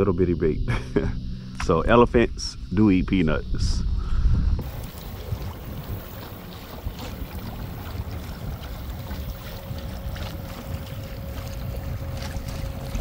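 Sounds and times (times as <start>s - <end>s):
faint steady hum: 0.0s - 13.0s
wind buffeting microphone: 0.2s - 13.0s.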